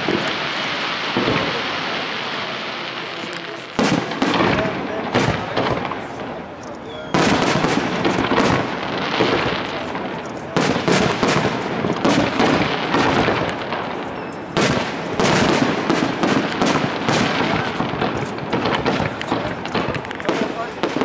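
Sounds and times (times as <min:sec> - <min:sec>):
firework crackling: 0:00.0 - 0:21.0
firework shells bursting: 0:00.0 - 0:21.0.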